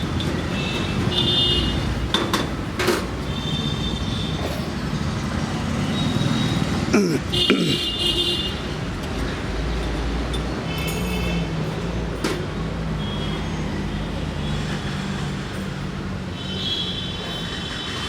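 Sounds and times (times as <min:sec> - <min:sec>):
vehicle engine humming: 0:00.0 - 0:16.2
street traffic noise: 0:00.0 - 0:18.0.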